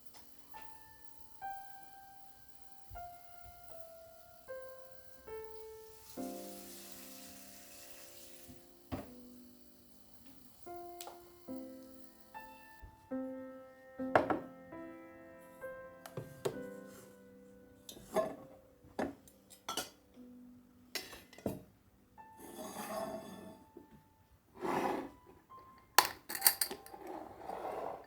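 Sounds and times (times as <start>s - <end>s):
soft piano music: 0.0s - 28.0s.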